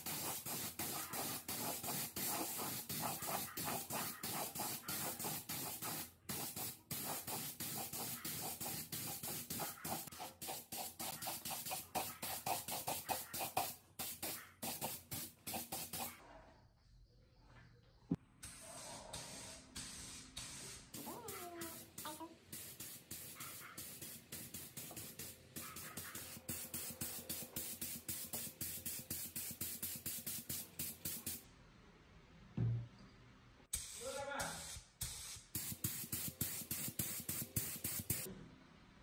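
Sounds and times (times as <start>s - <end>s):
spray gun hissing: 0.0s - 16.2s, 18.4s - 31.4s, 33.8s - 38.3s.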